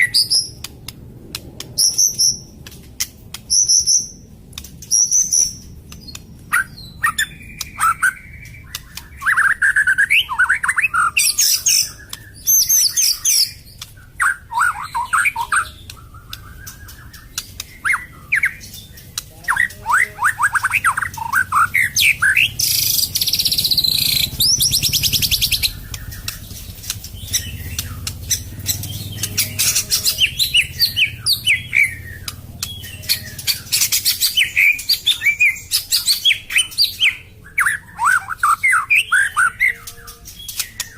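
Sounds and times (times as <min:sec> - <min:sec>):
harsh high buzzing birdsong: 0:00.0 - 0:40.9
bird singing whistled phrases: 0:04.9 - 0:26.4, 0:27.2 - 0:40.9.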